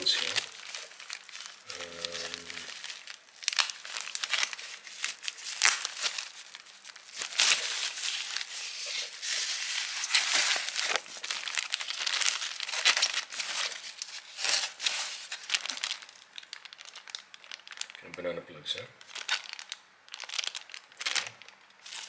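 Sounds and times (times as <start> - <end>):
packing wrap crinkling: 0.0 - 18.3, 19.0 - 22.0.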